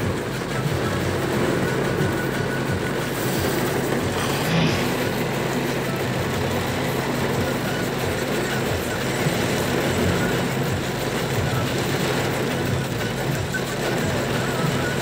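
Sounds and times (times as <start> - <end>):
heavy rain on car roof: 0.0 - 15.0.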